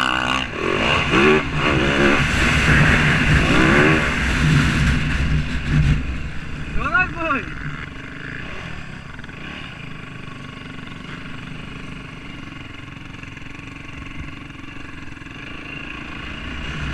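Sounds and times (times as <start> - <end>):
vehicle engine running: 0.0 - 16.9.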